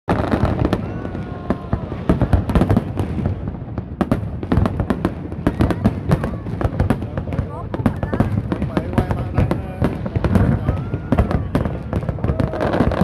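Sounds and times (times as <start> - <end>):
fireworks bursting with loud bangs: 0.1 - 13.0.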